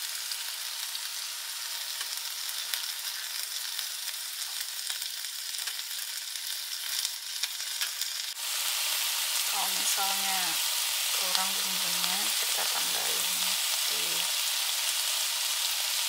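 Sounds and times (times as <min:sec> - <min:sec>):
skewers sizzling on a grill: 0:00.0 - 0:16.0.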